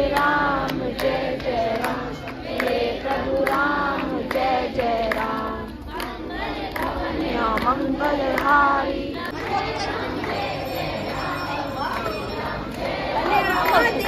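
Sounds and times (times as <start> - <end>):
group singing devotional song: 0.0 - 14.0
hand-clapping in time: 0.0 - 14.0.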